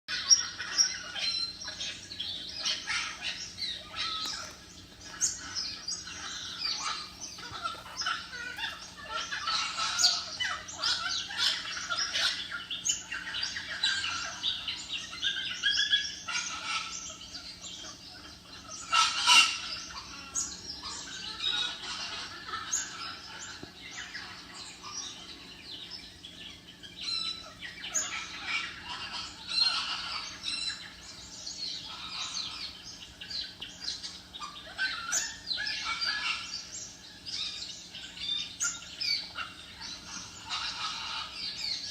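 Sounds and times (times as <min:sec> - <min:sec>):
parrots chirping and calling: 0:00.1 - 0:41.9.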